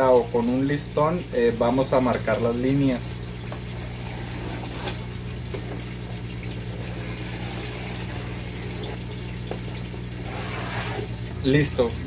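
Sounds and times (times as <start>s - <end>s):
pump humming: 0.0s - 12.0s
trickling water: 0.0s - 12.0s.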